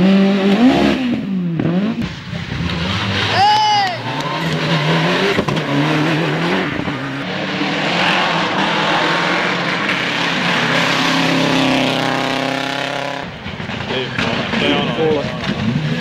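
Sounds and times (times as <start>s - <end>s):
rally car revving hard: 0.0s - 16.0s.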